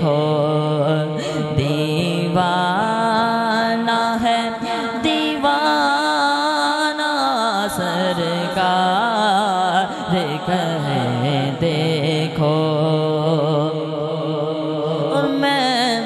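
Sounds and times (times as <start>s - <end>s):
man singing long wavering note: 0.0s - 16.0s.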